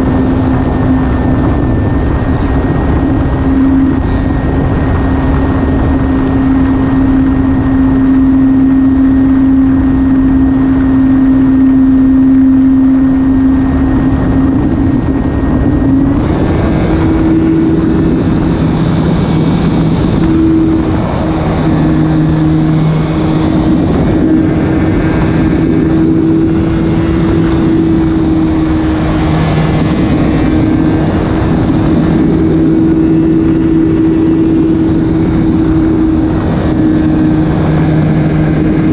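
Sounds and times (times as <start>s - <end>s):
constant rushing noise: 0.0s - 38.9s
electric motor propeller hum: 0.0s - 38.9s.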